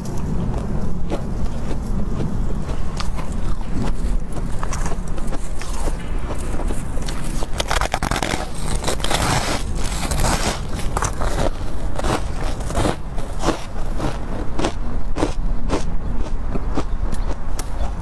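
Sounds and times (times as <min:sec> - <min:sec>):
chewing crunchy ice: 0:00.0 - 0:18.0
low steady rumble: 0:00.0 - 0:18.0.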